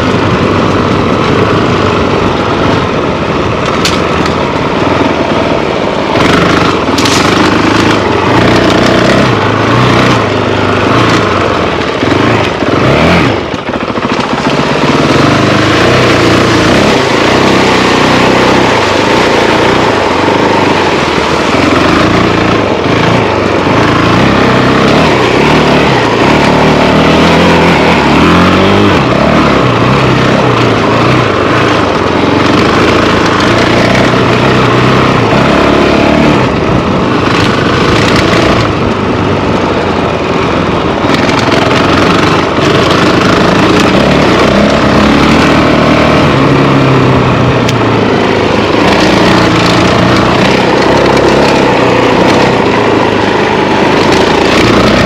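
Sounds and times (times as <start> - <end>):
motorcycle engine running: 0.0 - 55.0
steady rush of noise: 0.0 - 55.0.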